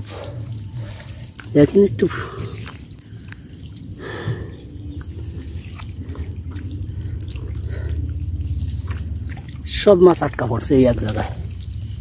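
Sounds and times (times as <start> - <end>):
fish splashing in shallow water: 0.0 - 12.0
steady low rumble: 0.0 - 12.0.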